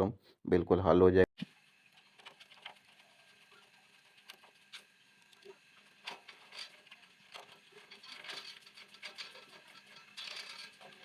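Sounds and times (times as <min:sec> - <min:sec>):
small parts clicking and knocking: 0:01.4 - 0:11.0.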